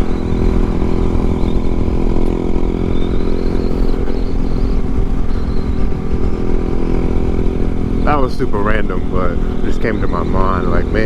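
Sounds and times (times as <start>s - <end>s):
low rumble of riding noise: 0.0s - 11.0s
motorcycle engine cruising: 0.0s - 11.0s.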